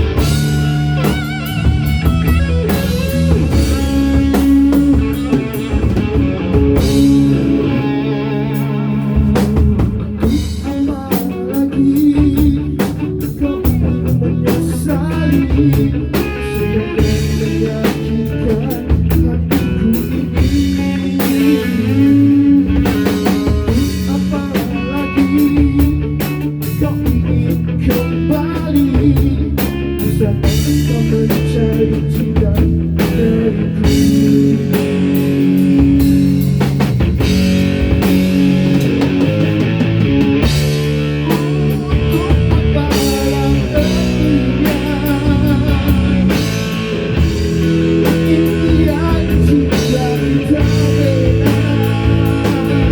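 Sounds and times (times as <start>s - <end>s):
blues-rock guitar: 0.0s - 52.9s
drum kit: 0.0s - 52.9s.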